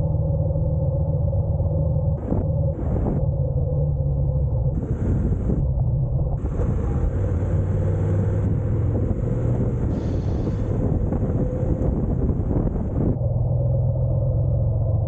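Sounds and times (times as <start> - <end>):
wind buffeting microphone: 0.0 - 13.6
motorcycle engine droning: 0.0 - 15.0.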